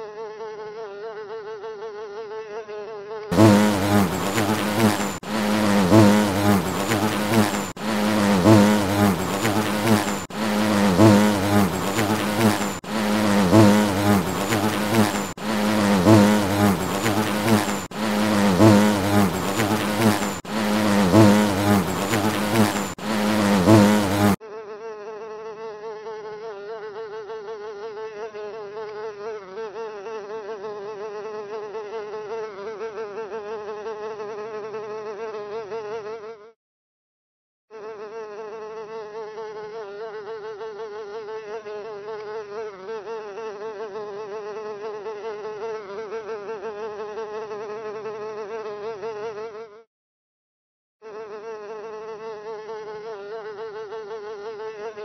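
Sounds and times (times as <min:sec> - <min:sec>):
low pulsing bee buzz: 0:00.0 - 0:36.5, 0:37.7 - 0:49.8, 0:51.0 - 0:55.0
housefly buzz: 0:00.0 - 0:36.6, 0:37.7 - 0:49.9, 0:51.0 - 0:55.0.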